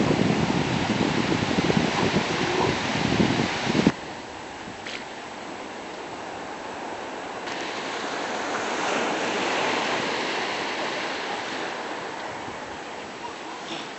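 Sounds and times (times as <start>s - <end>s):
ocean wave rushing: 0.0s - 13.9s.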